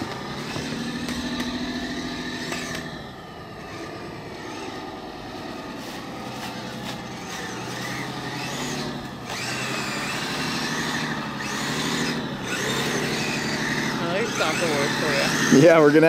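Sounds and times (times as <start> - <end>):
toy snowcat motor whining: 0.0 - 16.0.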